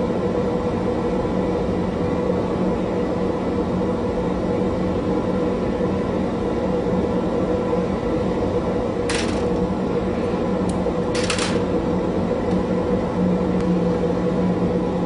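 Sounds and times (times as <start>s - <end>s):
torch rushing hum: 0.8s - 15.0s.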